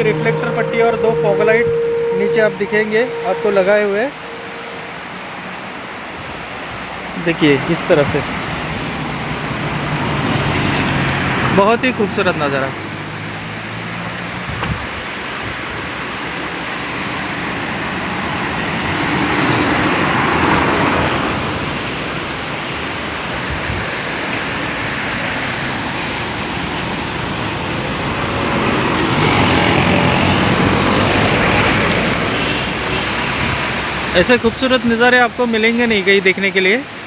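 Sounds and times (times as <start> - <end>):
passing traffic: 0.0 - 37.0
road and wind rush: 0.0 - 37.0.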